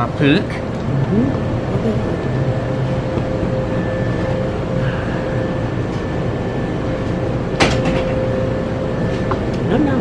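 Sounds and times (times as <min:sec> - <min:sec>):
machinery hum and rumble: 0:00.0 - 0:10.0
thin steady whine: 0:00.0 - 0:10.0.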